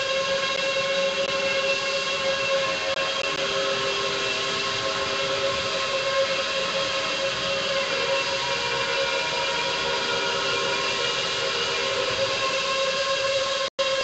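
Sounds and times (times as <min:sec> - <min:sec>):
guitar drone: 0:00.0 - 0:14.0
hiss: 0:00.0 - 0:14.0.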